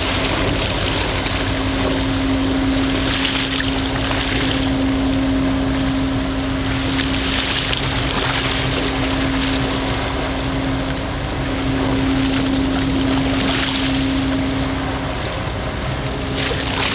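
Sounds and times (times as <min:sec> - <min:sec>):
boat engine hum: 0:00.0 - 0:16.9
choppy water: 0:00.0 - 0:16.9.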